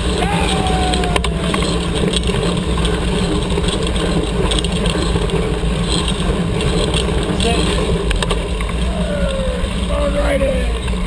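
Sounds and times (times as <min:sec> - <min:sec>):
tyres on dirt and gravel: 0:00.0 - 0:11.0
wind rumble on microphone: 0:00.0 - 0:11.0.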